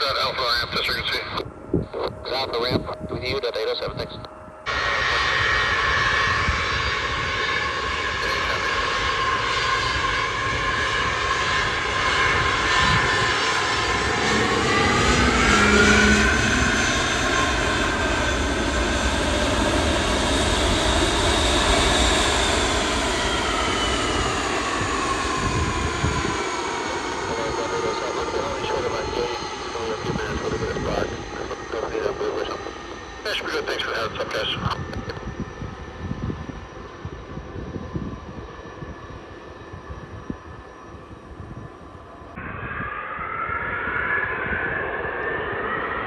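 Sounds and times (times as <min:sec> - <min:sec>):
jet engines whining and rumbling: 0:00.0 - 0:46.0.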